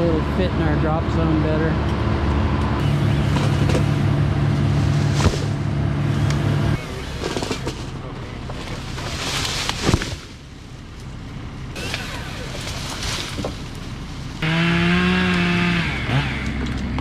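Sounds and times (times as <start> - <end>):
motor humming: 1.8 - 17.0.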